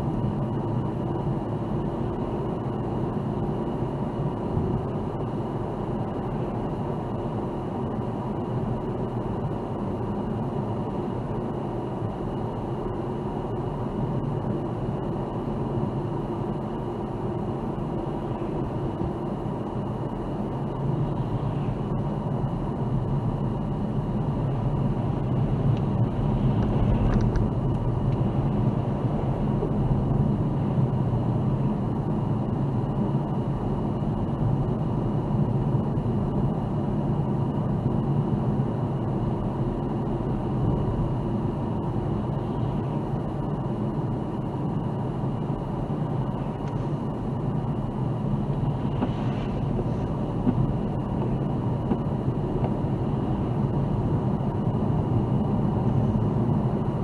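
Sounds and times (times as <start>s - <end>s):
engine and tyre rumble: 0.0s - 57.0s
faint thin whine: 0.0s - 57.0s.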